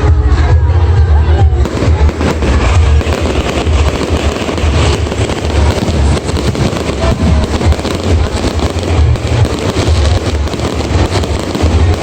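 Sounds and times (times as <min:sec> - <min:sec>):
deep rumble: 0:00.0 - 0:12.0
fireworks bangs and crackling: 0:01.4 - 0:12.0.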